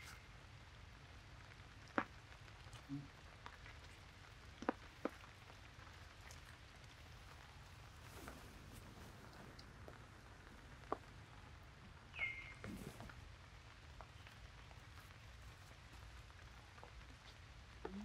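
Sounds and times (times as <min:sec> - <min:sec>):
faint steady hiss: 0:00.0 - 0:18.0
water dripping: 0:00.0 - 0:18.0.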